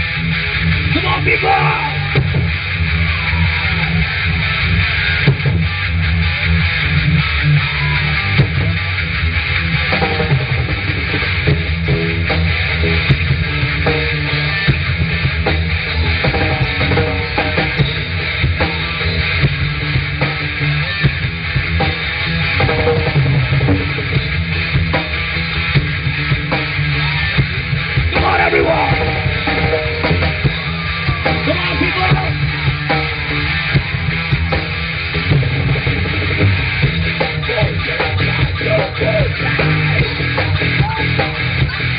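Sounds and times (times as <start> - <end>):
drum kit: 0.0 - 41.9
electric guitar: 0.0 - 41.9
live rock band playing: 0.0 - 41.9.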